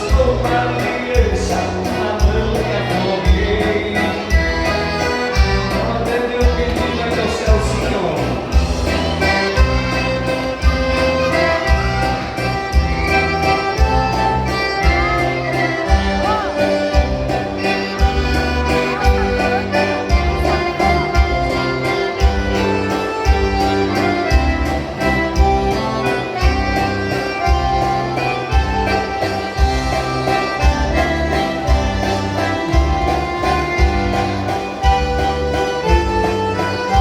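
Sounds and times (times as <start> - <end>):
lively accordion music: 0.0 - 37.0.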